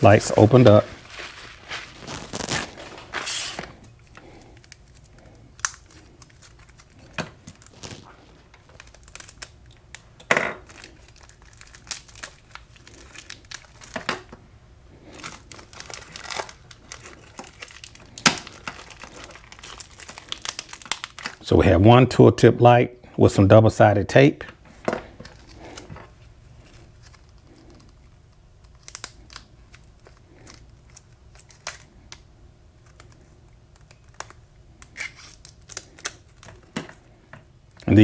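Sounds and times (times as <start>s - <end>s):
packaging crinkling and tearing: 0.0s - 14.3s, 15.0s - 21.4s, 26.5s - 36.8s.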